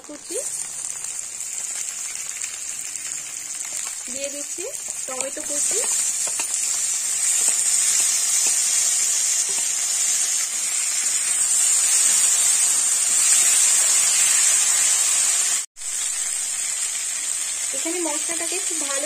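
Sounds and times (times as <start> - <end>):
tomatoes frying hiss: 0.0 - 19.0.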